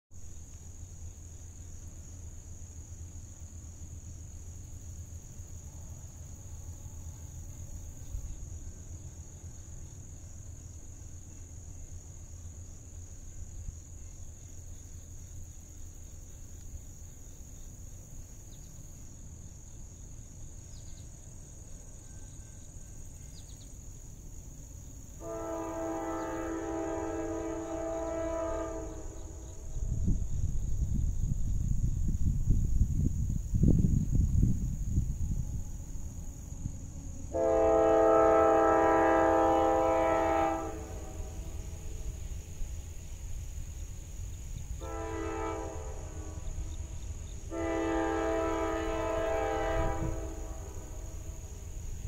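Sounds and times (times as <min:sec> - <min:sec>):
insects droning: 0:00.2 - 0:52.0.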